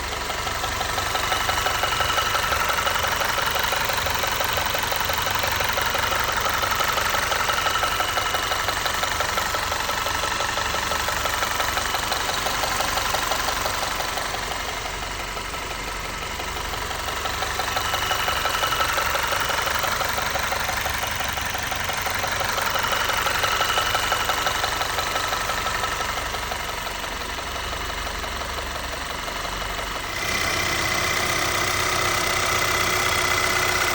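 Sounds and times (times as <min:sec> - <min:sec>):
car engine idling with ticking: 0:00.0 - 0:33.9.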